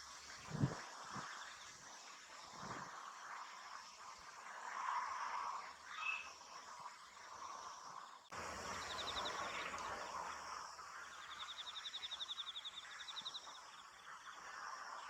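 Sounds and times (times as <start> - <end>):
insect rapid trill: 0.0 - 15.0
insects droning: 0.0 - 15.0.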